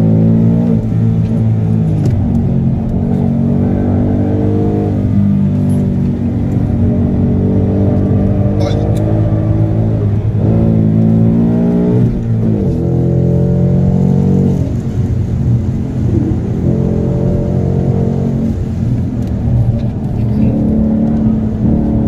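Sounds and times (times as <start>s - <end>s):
car engine exhaust revving: 0.0s - 22.0s.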